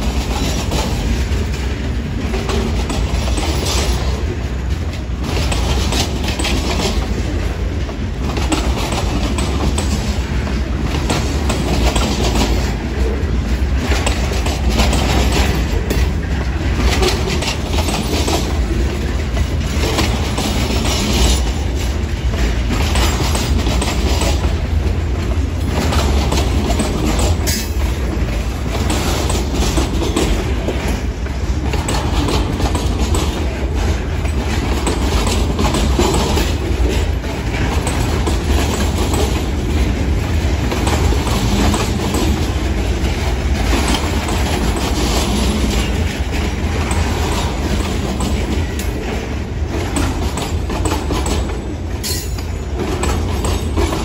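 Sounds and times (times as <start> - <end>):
train wheels rumbling on rail: 0.0 - 54.0
wheels clacking on rail joints: 0.0 - 54.0.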